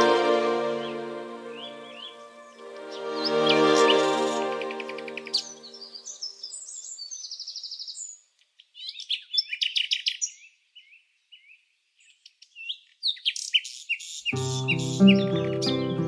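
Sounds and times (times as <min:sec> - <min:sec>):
songbirds chirping and trilling: 0:00.7 - 0:16.0.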